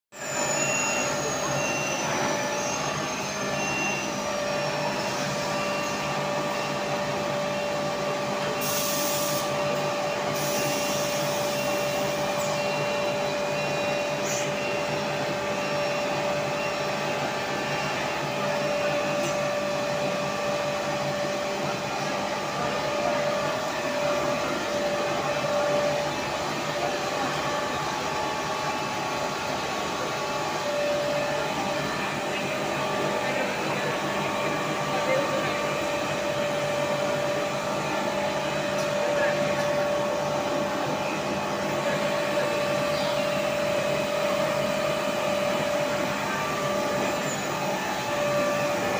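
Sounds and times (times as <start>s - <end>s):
machine hum and whine: 0.2s - 48.9s.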